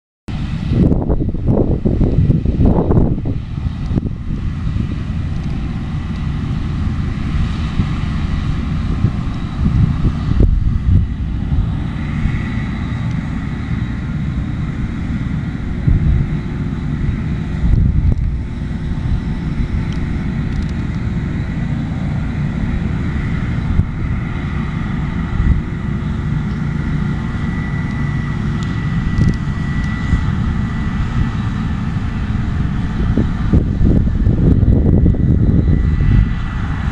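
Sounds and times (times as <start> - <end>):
combine harvester engine drone: 0.3 - 36.9
high machinery whine: 0.3 - 36.9.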